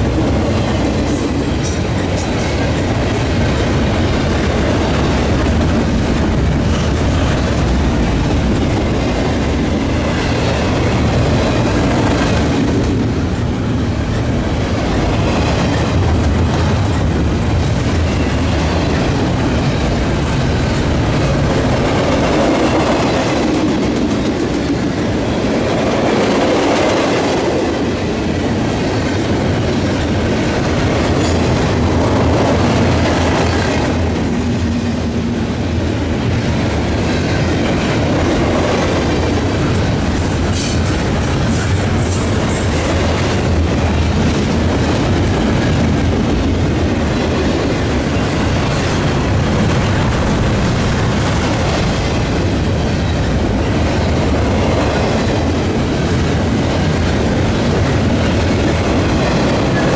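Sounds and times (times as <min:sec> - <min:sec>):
train wheels rolling over rails: 0:00.0 - 0:59.9.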